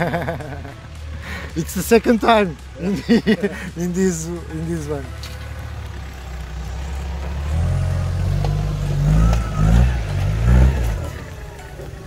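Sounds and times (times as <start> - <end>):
diesel engine pulling under load: 0.0 - 12.0.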